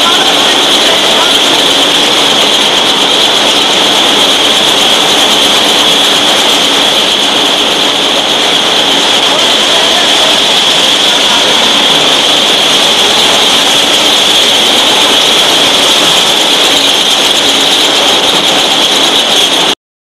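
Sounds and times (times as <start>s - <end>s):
machinery running with high whine: 0.0s - 19.8s.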